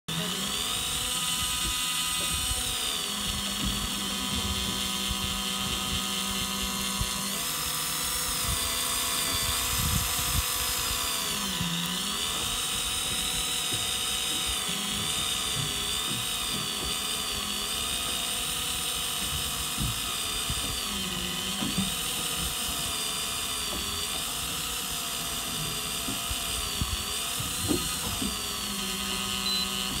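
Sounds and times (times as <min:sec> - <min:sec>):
fishing reel motor whining: 0:00.1 - 0:30.0.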